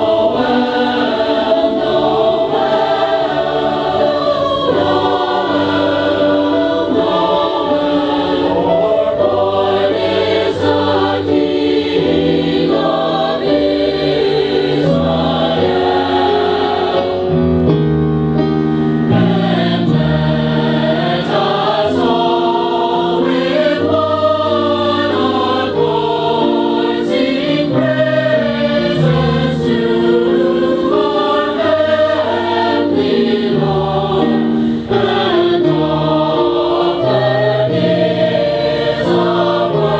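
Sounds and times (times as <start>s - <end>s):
choir singing a christmas song: 0.0s - 39.9s
musical accompaniment: 0.0s - 39.9s.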